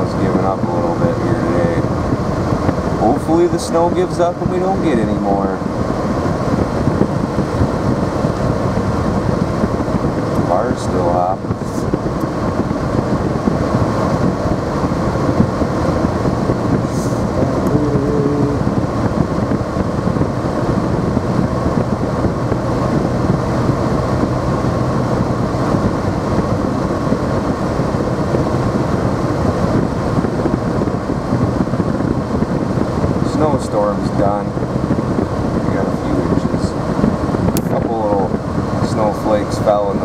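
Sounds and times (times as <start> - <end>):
car engine noise: 0.0 - 40.0.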